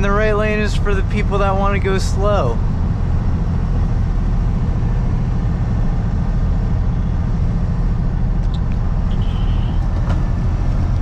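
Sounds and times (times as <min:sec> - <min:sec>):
road and engine rumble in cabin: 0:00.0 - 0:11.0.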